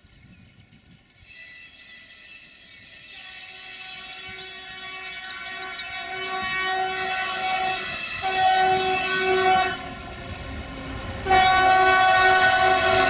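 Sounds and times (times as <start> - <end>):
diesel locomotive horn blasts: 1.2 - 10.1, 11.2 - 13.0.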